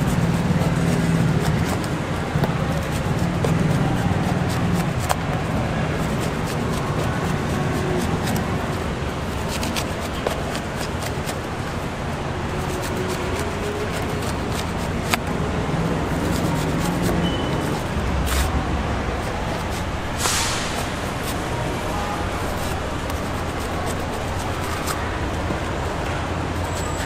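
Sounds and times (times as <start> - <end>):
knife scraping fruit flesh: 0.0 - 27.0
street market noise: 0.0 - 27.0
traffic hum: 0.0 - 27.0.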